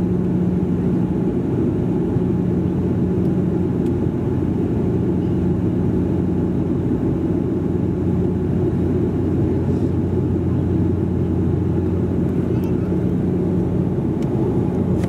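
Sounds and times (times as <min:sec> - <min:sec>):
propeller engine hum: 0:00.0 - 0:15.0.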